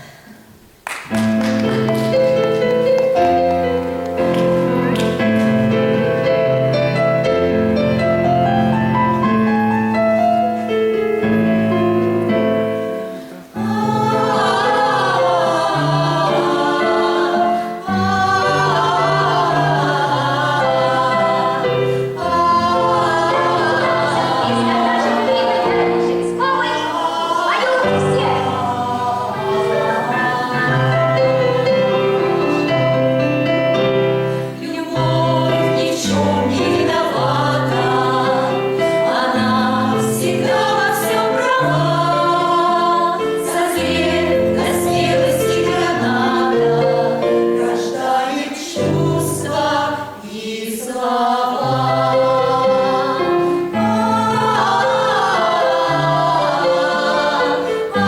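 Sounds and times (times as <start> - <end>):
musical accompaniment: 0.4 - 58.0
choir singing: 1.2 - 58.0.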